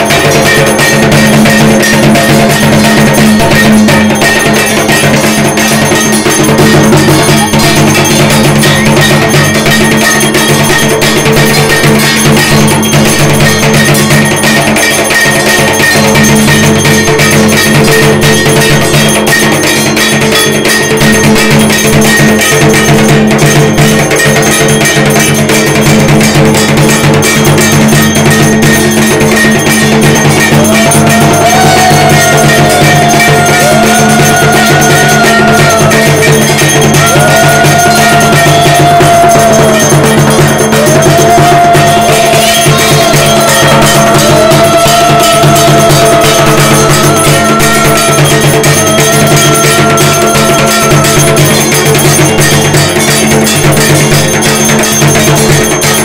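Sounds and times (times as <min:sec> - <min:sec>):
fast drumming: 0:00.0 - 0:56.0
high melodic line: 0:00.0 - 0:56.0.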